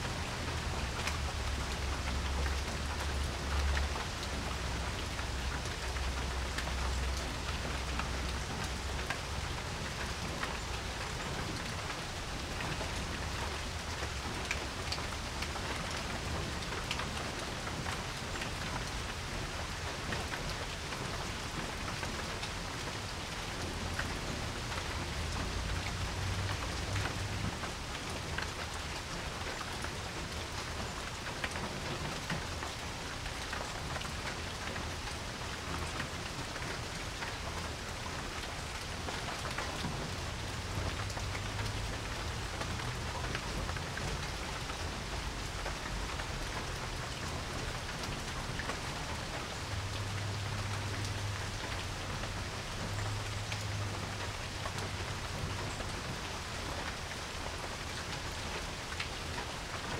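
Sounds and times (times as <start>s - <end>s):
rain falling on a porch: 0.0s - 59.9s.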